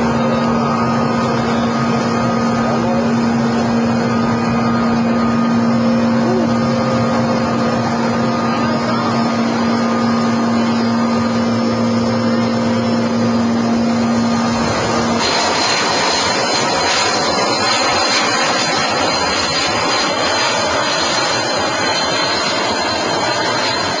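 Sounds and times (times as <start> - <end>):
helicopter engines and rotor droning: 0.0 - 24.0.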